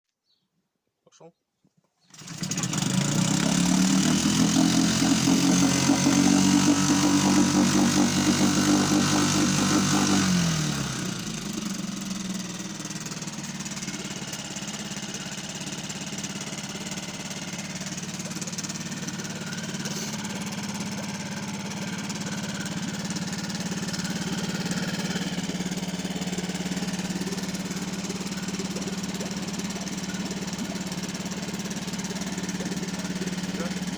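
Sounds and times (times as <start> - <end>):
outboard motor revving and idling: 2.1 - 33.9.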